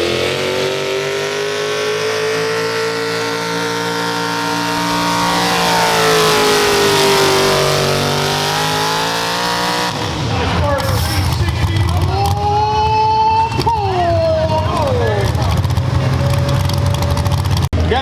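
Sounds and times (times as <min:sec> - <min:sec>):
vehicle engine at high revs: 0:00.0 - 0:12.6, 0:13.6 - 0:18.0.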